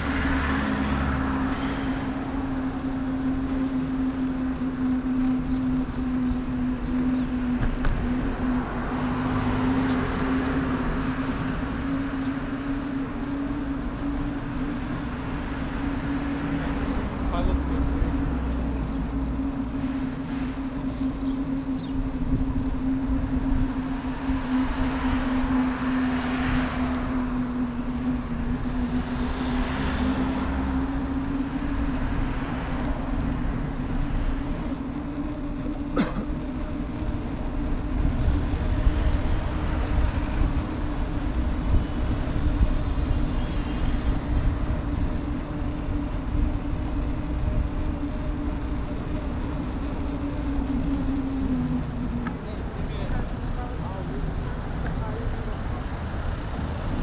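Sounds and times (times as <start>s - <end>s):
city street traffic hum: 0.0s - 57.0s.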